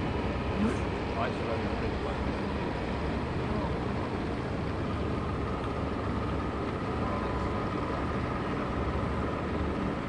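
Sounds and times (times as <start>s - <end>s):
boat rumble and hiss: 0.0s - 10.0s.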